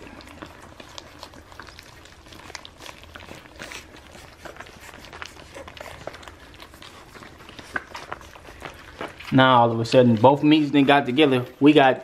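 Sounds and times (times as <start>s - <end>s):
puppies licking and chewing: 0.0s - 12.0s.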